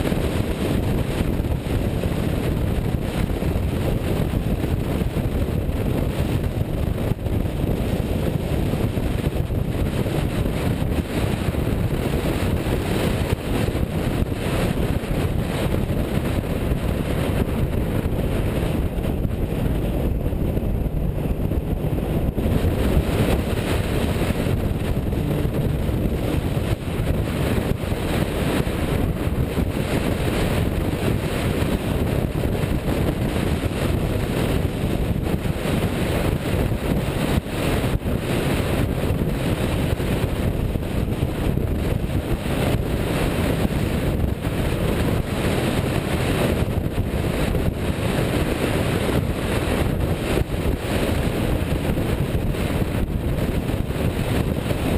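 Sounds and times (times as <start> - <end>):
wind rumbling on microphone: 0.0 - 54.9.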